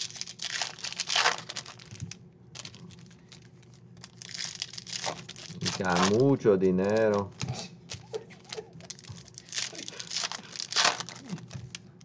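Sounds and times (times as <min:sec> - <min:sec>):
foil wrapper tearing and crinkling: 0:00.0 - 0:12.0.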